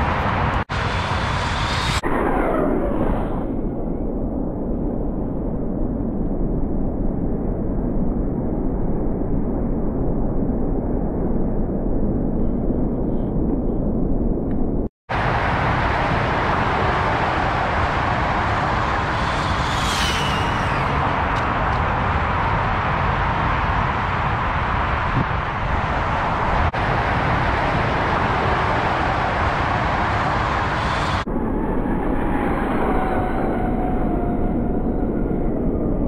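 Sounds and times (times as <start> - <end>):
wind noise on microphone: 0.0 - 36.0.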